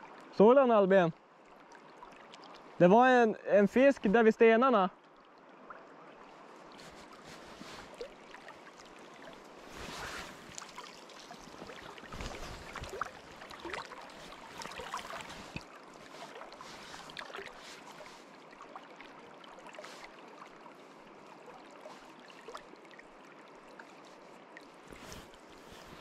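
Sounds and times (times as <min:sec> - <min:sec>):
river water lapping and splashing: 0:00.0 - 0:00.3, 0:01.2 - 0:02.9, 0:03.7 - 0:26.0.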